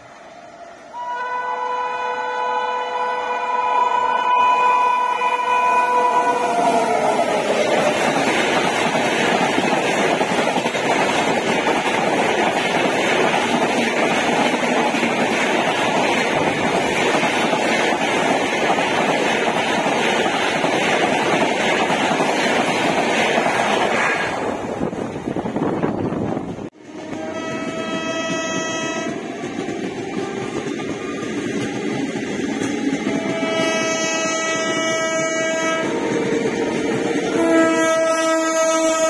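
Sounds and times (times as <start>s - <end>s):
train rushing past: 0.0s - 39.0s.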